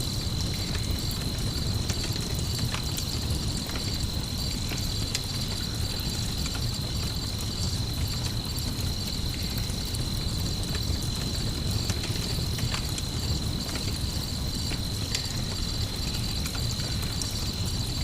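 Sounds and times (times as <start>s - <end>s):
campfire crackling: 0.0s - 18.0s
crickets chirping: 0.0s - 18.0s.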